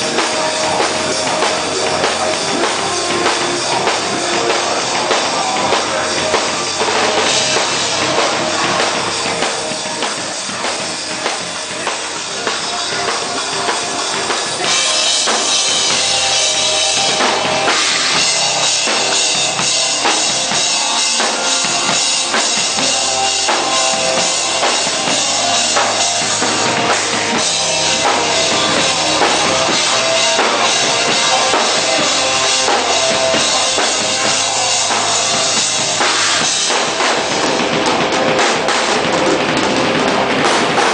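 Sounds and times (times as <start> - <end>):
hardcore band playing live: 0.0 - 40.9.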